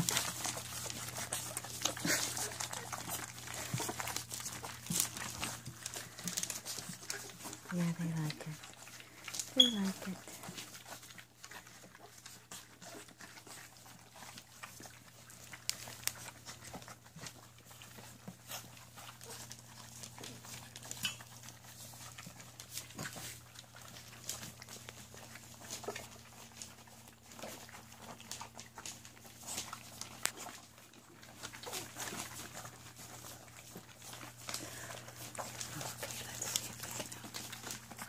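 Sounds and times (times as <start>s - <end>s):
puppies licking and chewing: 0.0s - 38.0s.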